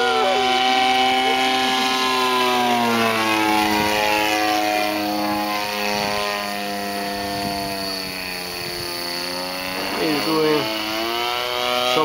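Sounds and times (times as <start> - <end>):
model plane propeller buzzing: 0.0 - 12.0.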